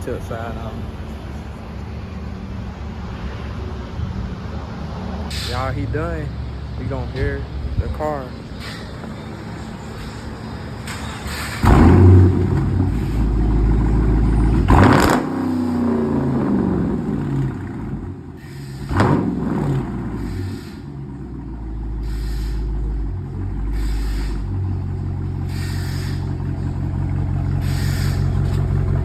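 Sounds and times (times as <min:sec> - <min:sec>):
car engine idling: 0:00.0 - 0:29.0
car engine revving: 0:00.0 - 0:29.0.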